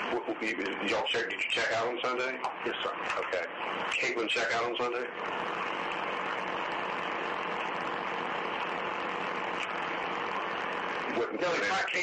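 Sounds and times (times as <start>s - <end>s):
static hiss: 0.0s - 12.0s.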